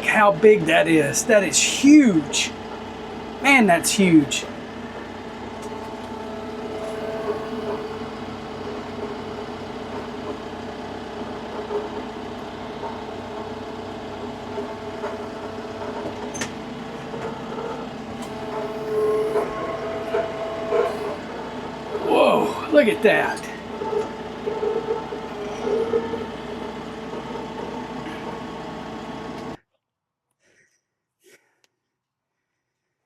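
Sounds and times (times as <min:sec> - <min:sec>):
tractor engine running: 0:00.0 - 0:29.6.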